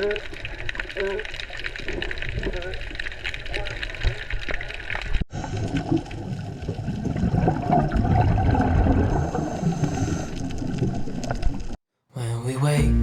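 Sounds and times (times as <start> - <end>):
sea water rushing and splashing: 0.0 - 11.8.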